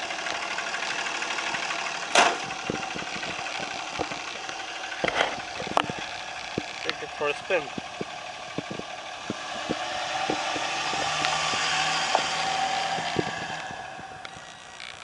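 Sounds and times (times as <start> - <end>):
diesel truck driving past: 0.0 - 14.3.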